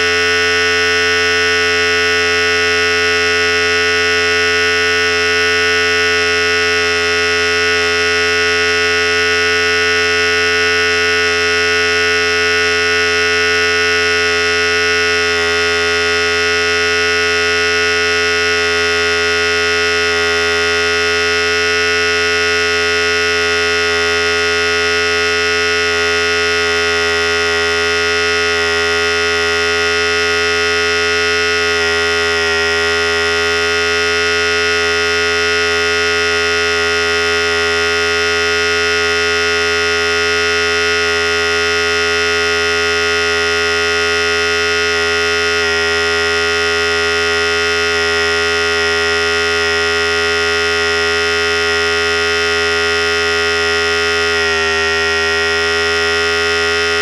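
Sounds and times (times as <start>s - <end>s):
electric hair clipper buzzing: 0.0s - 57.0s.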